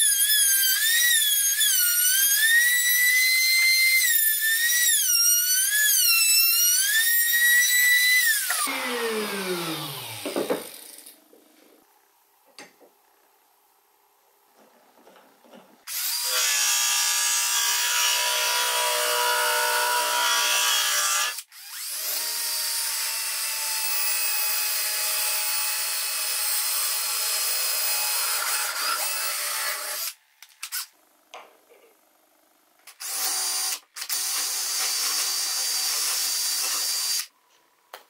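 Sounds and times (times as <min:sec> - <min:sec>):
cordless drill boring into wood: 0:00.0 - 0:11.1, 0:15.9 - 0:30.8, 0:32.9 - 0:37.3.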